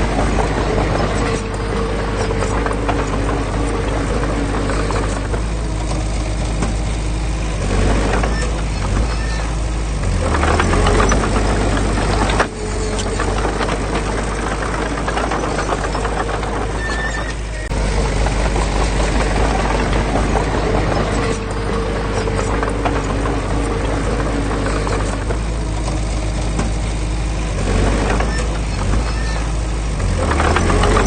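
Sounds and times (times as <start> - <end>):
diesel engine droning: 0.0 - 31.0
rattling and clanking: 0.0 - 31.0.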